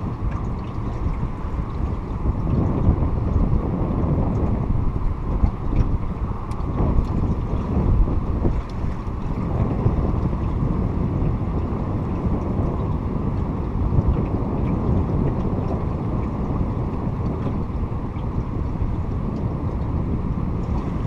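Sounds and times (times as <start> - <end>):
boat low rumbling: 0.0 - 21.0
wind on microphone: 0.0 - 21.0.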